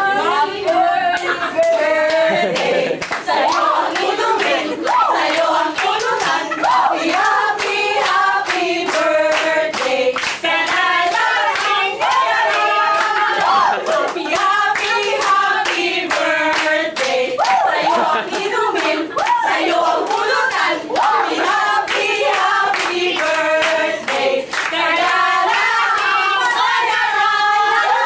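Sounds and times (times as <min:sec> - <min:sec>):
group singing: 0:00.0 - 0:28.0
hands clapping in rhythm: 0:00.6 - 0:28.0.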